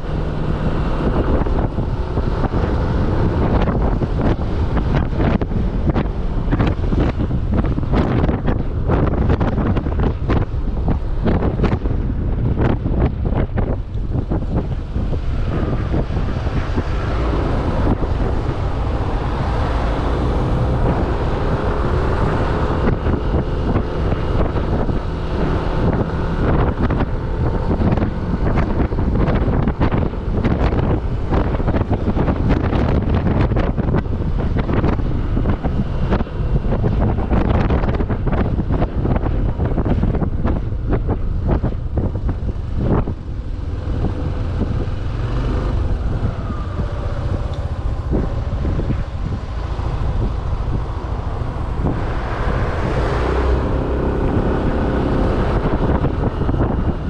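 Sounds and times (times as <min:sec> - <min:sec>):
motorcycle engine: 0:00.0 - 0:57.0
wind buffeting microphone: 0:00.0 - 0:57.0.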